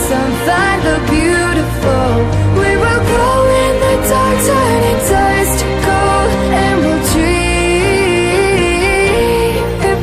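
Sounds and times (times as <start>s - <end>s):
pop song with backing band: 0.0s - 10.0s.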